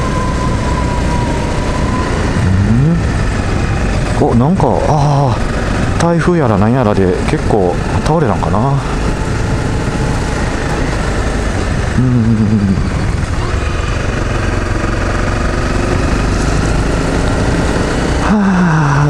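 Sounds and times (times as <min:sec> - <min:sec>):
wind noise: 0:00.0 - 0:18.3
motorcycle engine running: 0:00.0 - 0:19.0.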